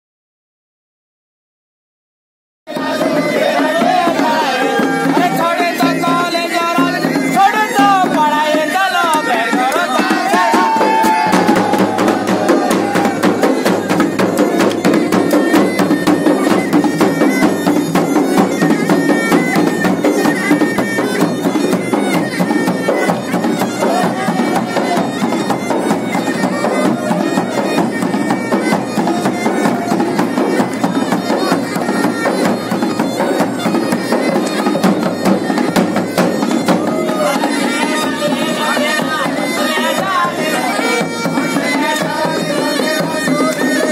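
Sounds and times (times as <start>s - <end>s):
bagpipe melody with drone: 2.7s - 43.9s
drums beating fast rhythm: 2.7s - 43.9s.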